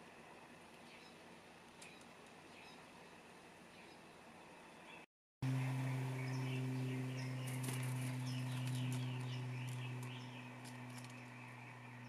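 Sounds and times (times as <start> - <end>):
low mechanical hum: 0.0 - 12.0
small birds chirping: 0.3 - 12.0.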